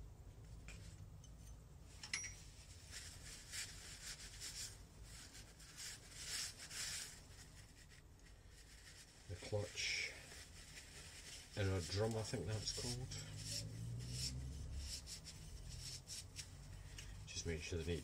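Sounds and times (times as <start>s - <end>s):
low steady hum: 0.0s - 18.0s
cloth rag rubbing metal: 2.5s - 18.0s.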